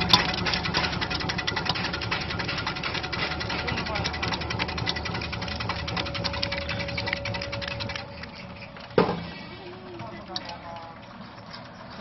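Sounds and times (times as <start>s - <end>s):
slicing machine ticking and humming: 0.0s - 12.0s.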